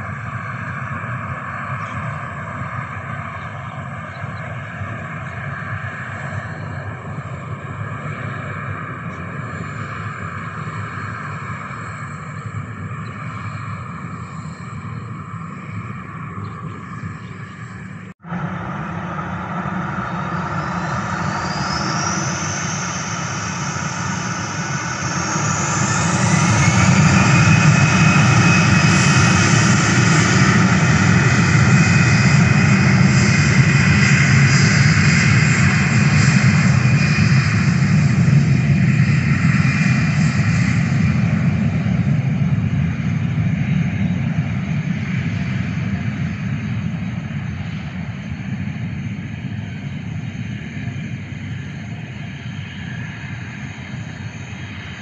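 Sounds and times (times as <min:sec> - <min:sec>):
jet engines humming: 0:00.0 - 0:55.0
jet engines spooling up: 0:00.0 - 0:55.0.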